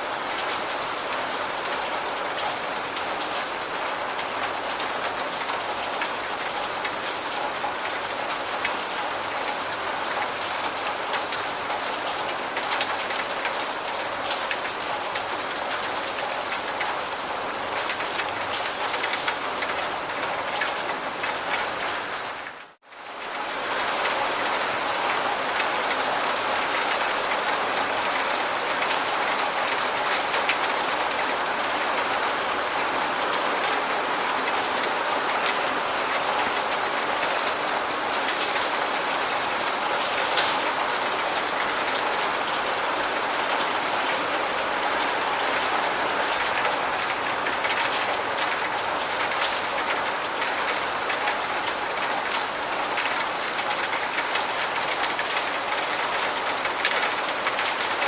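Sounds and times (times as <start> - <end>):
heavy rain: 0.0 - 58.0
raindrops pattering: 0.0 - 58.0.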